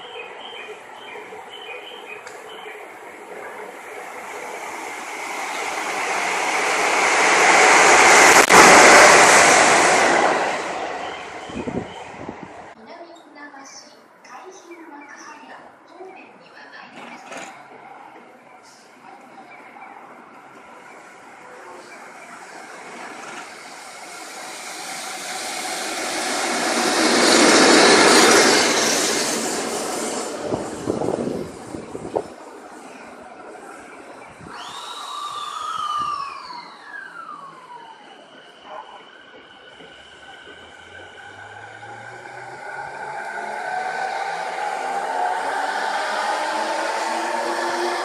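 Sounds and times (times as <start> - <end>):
electric locomotive passing: 0.0 - 12.8, 17.6 - 48.0
train rushing past: 0.0 - 12.8, 20.2 - 48.0.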